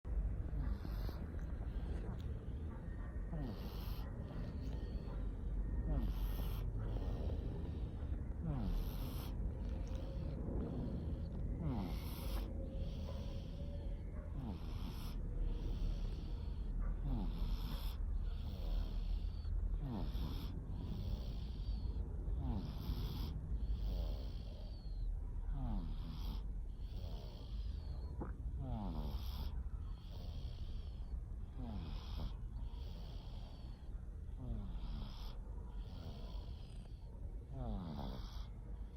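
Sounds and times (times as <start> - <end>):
cat snoring: 0.3 - 38.9.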